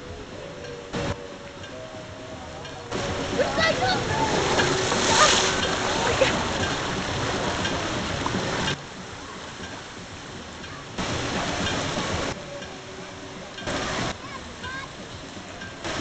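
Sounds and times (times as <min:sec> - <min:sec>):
faint voices: 0:00.0 - 0:16.0
rushing splashing water: 0:00.0 - 0:16.0.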